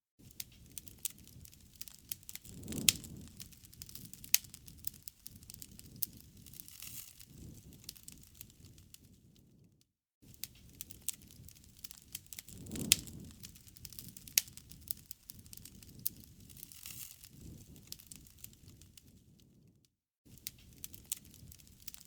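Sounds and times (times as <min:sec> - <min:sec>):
campfire crackling: 0:00.3 - 0:09.5, 0:10.3 - 0:19.4, 0:20.3 - 0:22.0.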